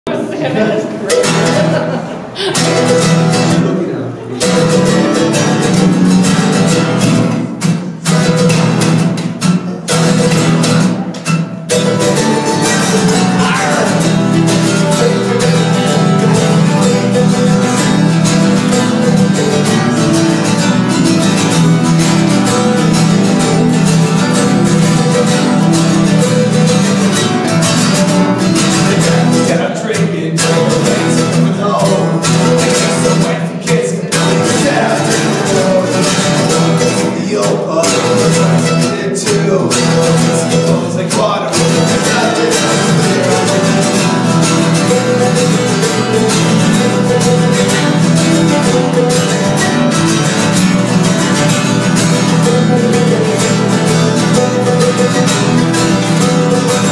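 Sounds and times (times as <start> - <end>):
acoustic guitars strumming: 0.1 - 56.9
mandolin picking: 0.1 - 56.9.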